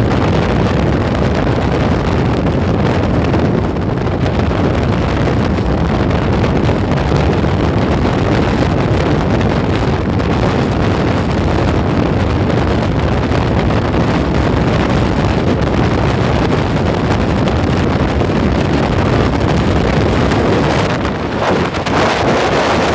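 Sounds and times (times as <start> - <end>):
motorcycle running: 0.0 - 22.9
wind rush over microphone: 0.0 - 22.9.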